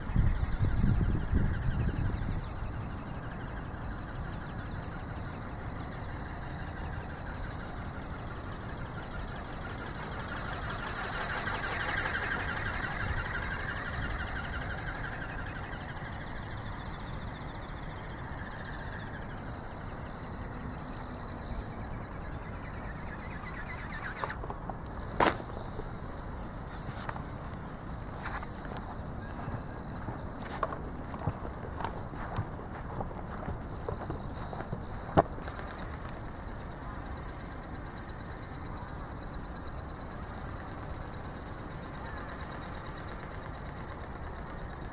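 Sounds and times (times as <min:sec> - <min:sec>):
pulsing high motor whine: 0:00.0 - 0:44.9.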